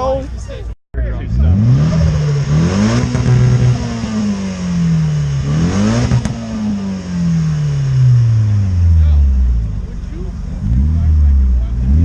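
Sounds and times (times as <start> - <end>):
car engine revving: 1.0 - 12.0.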